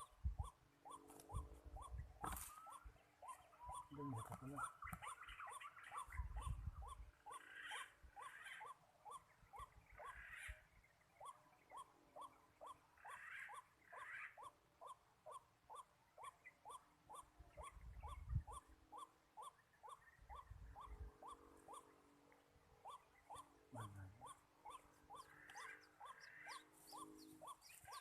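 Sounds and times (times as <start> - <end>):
bird calling: 0.0 - 22.1, 22.8 - 28.0.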